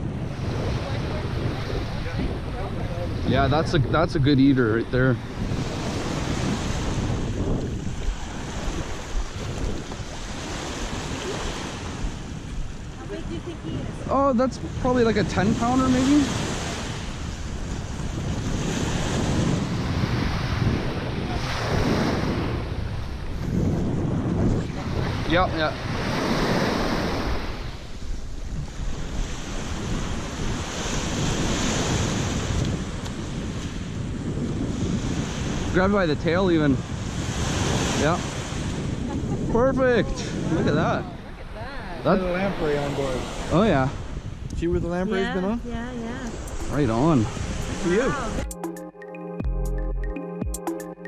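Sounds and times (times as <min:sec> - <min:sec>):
wind buffeting microphone: 0:00.0 - 0:48.4
waves washing onto beach: 0:00.0 - 0:48.5.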